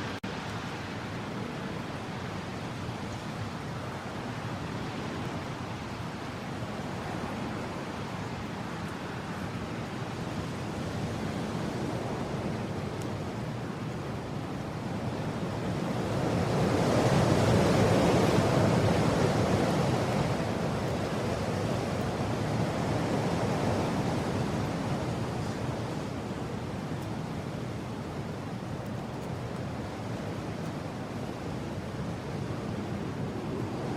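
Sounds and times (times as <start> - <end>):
wind blowing in gusts: 0.0 - 33.9.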